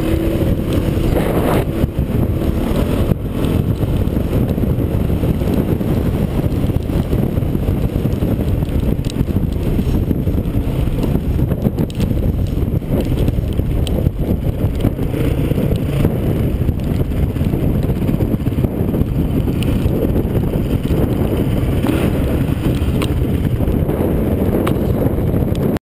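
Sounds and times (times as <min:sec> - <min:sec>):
dirt bike engine rumble: 0:00.0 - 0:25.8
wind buffeting microphone: 0:00.0 - 0:25.8.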